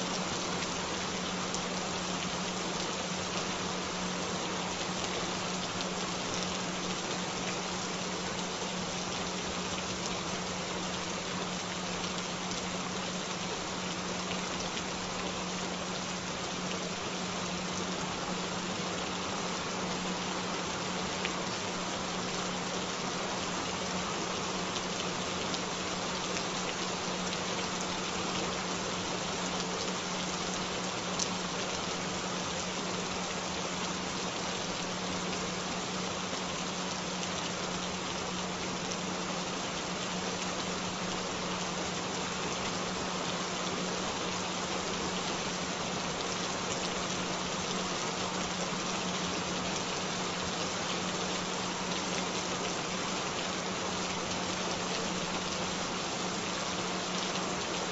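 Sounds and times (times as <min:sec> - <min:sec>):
steady rain patter: 0:00.0 - 0:57.9.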